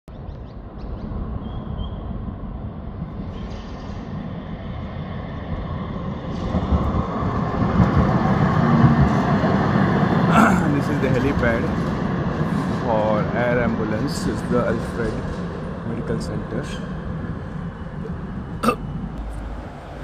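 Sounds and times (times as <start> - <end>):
low outdoor rumble: 0.1 - 20.0.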